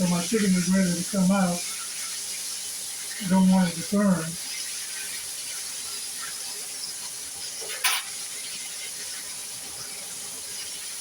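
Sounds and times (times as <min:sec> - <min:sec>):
meat sizzling in hot grease: 0:00.0 - 0:11.0.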